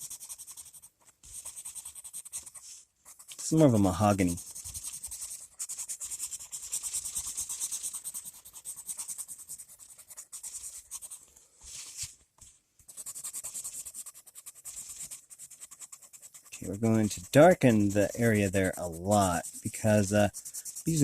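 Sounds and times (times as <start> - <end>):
pencil scratching on paper: 0.0 - 21.0.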